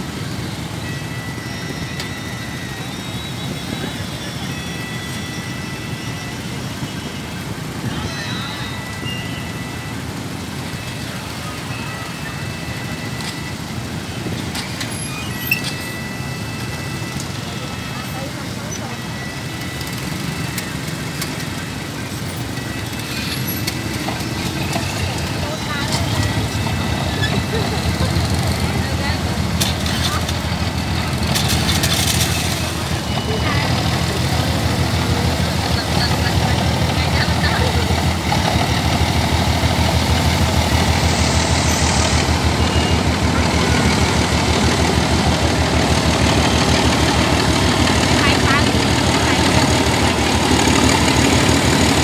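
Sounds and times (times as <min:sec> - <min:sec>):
diesel locomotive passing: 0:00.0 - 0:52.0
freight train rumbling past: 0:00.0 - 0:52.0
motorbike engines idling: 0:06.1 - 0:52.0
train clicks: 0:08.8 - 0:52.0.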